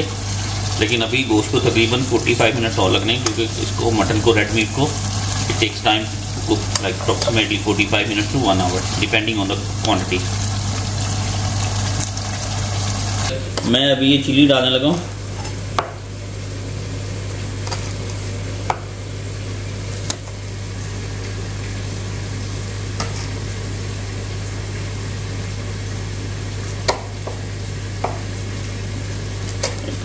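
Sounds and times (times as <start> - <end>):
steady sizzle: 0.0 - 30.0.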